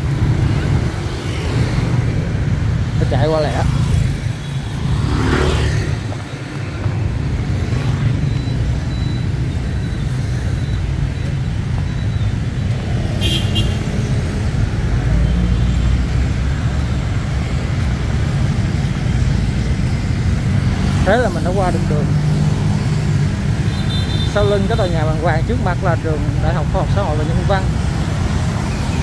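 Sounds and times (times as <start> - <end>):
motorbikes and cars passing: 0.0 - 29.0.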